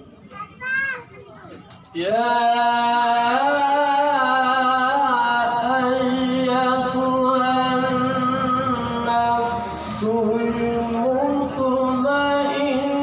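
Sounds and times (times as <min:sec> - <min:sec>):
man chanting into a microphone: 0:02.0 - 0:13.0.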